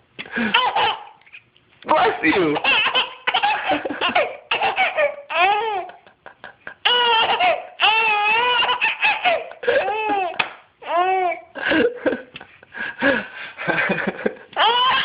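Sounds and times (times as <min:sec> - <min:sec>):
baby laughing: 0:00.3 - 0:12.5, 0:14.4 - 0:15.0.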